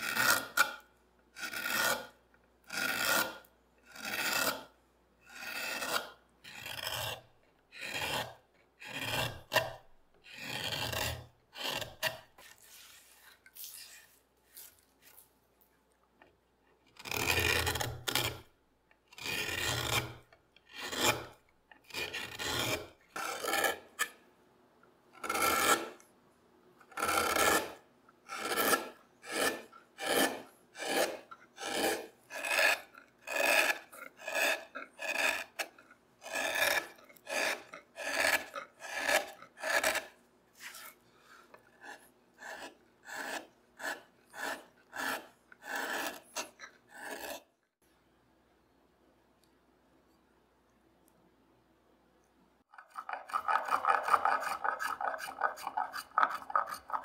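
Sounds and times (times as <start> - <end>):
gouge scraping through wood: 0.0 - 15.4, 16.9 - 24.2, 25.2 - 26.0, 26.8 - 47.5, 52.7 - 57.0.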